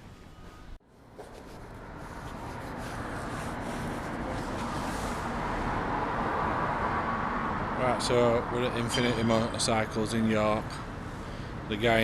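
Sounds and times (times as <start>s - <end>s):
passing vehicle engine and tyres: 0.2s - 12.0s.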